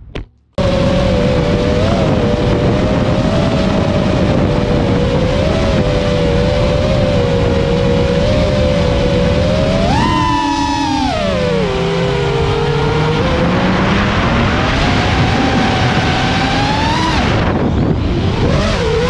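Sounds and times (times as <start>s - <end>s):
drone motors whining: 0.6s - 19.0s
wind rush on microphone: 0.6s - 19.0s.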